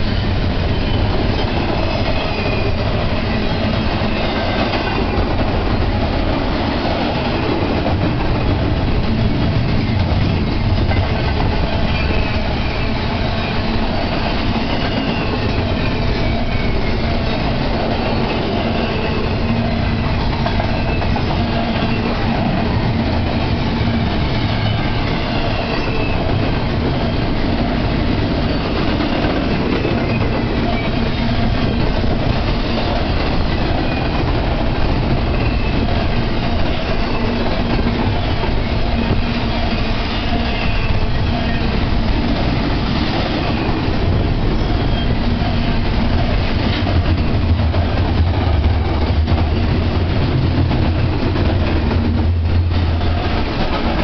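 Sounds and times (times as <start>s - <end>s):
clickety-clack of rail joints: 0.0s - 54.0s
train wheels rumbling on rails: 0.0s - 54.0s.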